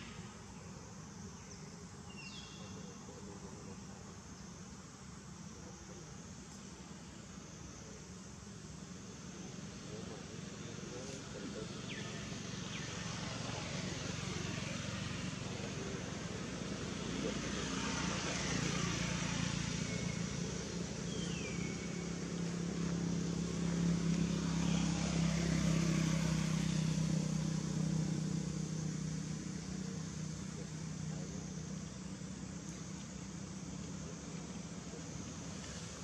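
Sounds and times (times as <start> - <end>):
distant vehicle engine hum: 0.0 - 36.0
outdoor background noise: 0.0 - 36.0.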